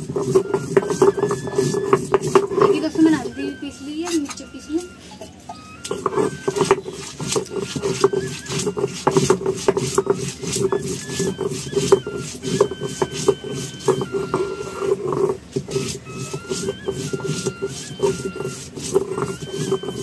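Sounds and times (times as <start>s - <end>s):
stone grinding on stone slab: 0.0s - 5.1s, 5.7s - 20.0s.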